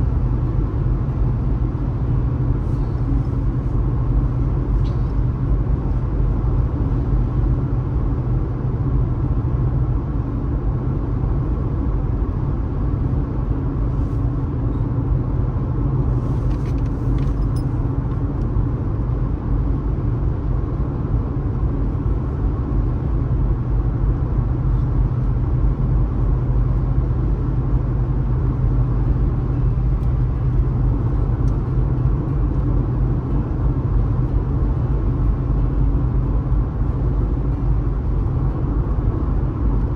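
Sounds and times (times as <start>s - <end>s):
car engine rumble: 0.0s - 39.9s
tyre road noise: 0.0s - 39.9s.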